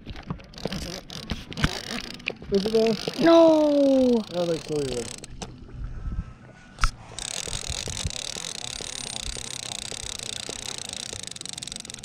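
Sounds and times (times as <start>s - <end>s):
fishing reel gear whir: 0.1s - 5.7s, 6.8s - 12.0s
faint regular ticking: 0.4s - 5.6s, 7.2s - 12.0s
reel sharp click: 0.5s - 5.5s, 6.8s - 12.0s.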